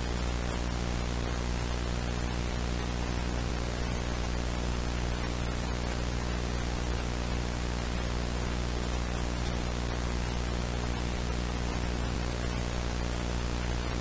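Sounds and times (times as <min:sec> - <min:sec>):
static hiss: 0:00.0 - 0:14.0.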